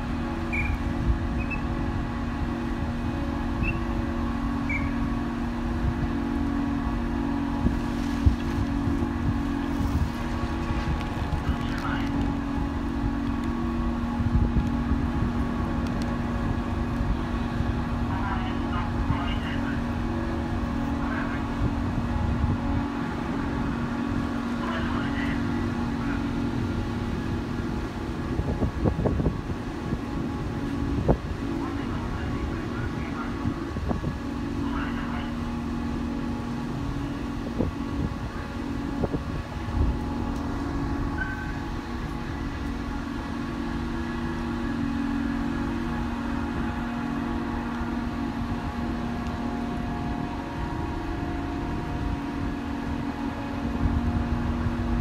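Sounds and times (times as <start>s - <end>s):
ship machinery humming: 0.0s - 55.0s.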